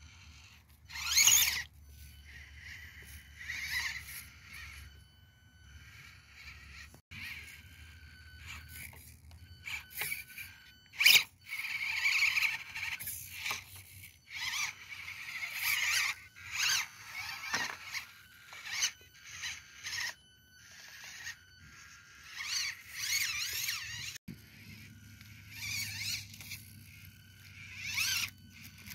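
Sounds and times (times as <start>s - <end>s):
toy motor whining: 0.0s - 28.9s.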